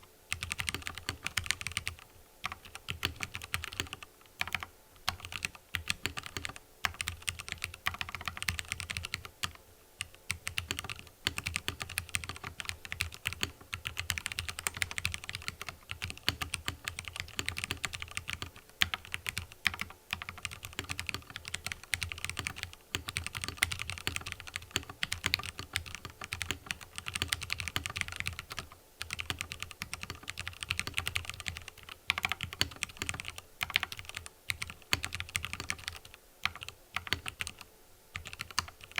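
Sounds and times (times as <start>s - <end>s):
typing on mechanical keyboard: 0.3s - 38.9s.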